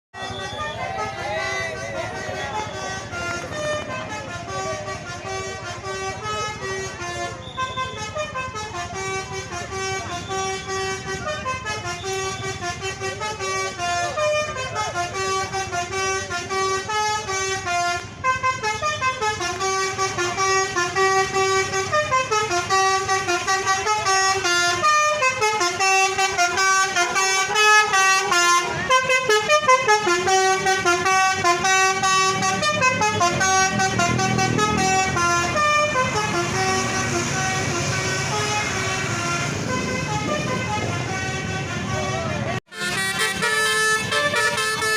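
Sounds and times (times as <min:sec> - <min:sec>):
bus air horn playing tune: 0:00.1 - 0:44.9.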